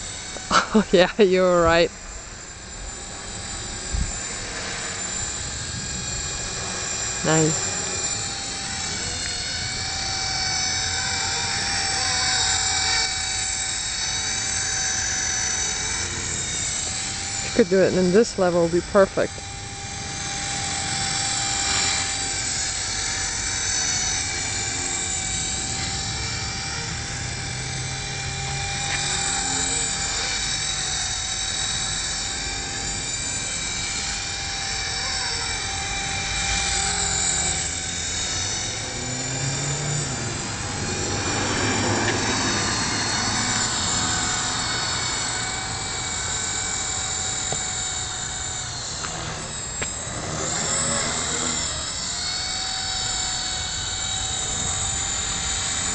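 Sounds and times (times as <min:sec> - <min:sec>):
rc helicopter motor whine: 0:00.0 - 0:55.9
rotor blades whirring: 0:00.0 - 0:55.9.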